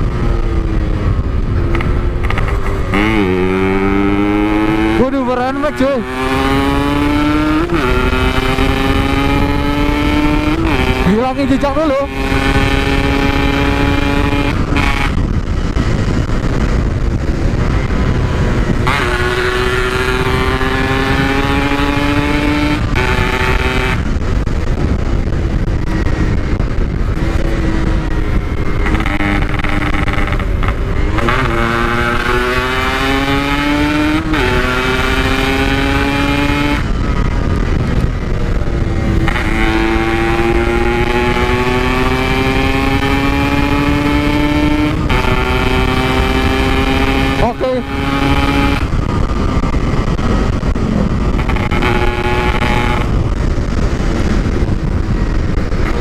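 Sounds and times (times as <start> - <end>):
low steady rush: 0.0 - 56.0
two-stroke motorcycle engine revving: 0.0 - 56.0.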